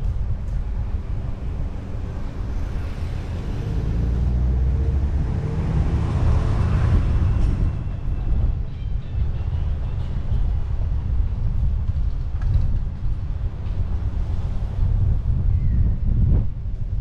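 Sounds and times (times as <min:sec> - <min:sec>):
car road and engine noise: 0:00.0 - 0:17.0
wind rumble on microphone: 0:00.0 - 0:17.0.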